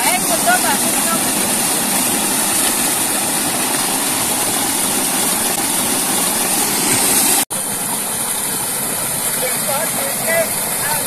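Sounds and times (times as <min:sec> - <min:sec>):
water gushing into a pit: 0:00.0 - 0:11.0.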